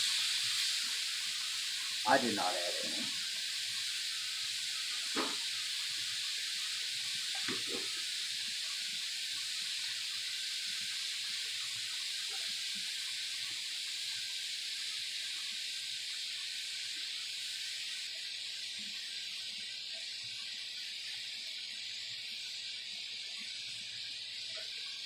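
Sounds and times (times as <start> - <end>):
meat sizzling on a griddle: 0.0 - 25.0.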